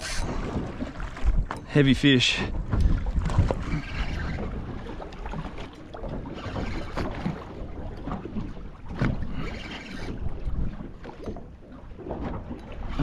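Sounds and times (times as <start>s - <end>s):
wind buffeting microphone: 0.0s - 11.2s
water slapping boat hull: 0.0s - 13.0s.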